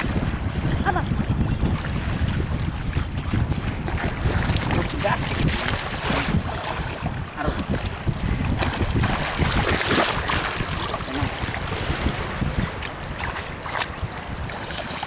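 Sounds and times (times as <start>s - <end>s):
river water lapping and splashing: 0.0s - 15.0s
wind rumbling on microphone: 0.0s - 15.0s.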